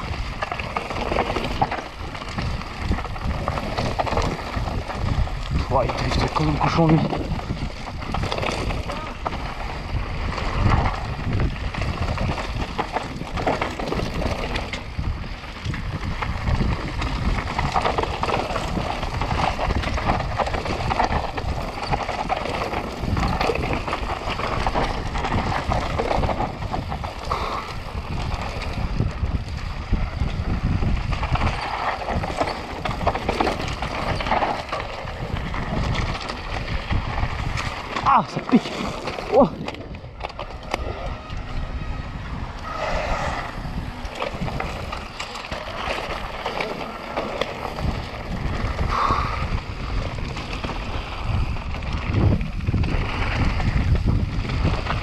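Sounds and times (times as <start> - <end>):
bike rattling over rocks: 0.0 - 55.0
wind rush on microphone: 0.0 - 55.0.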